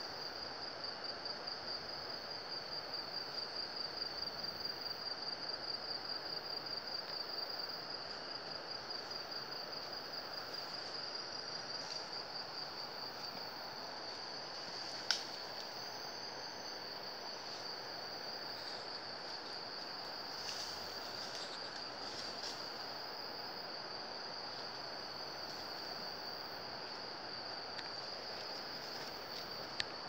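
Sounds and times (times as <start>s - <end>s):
constant hiss: 0.0s - 30.0s
insect chorus trilling: 0.0s - 30.0s.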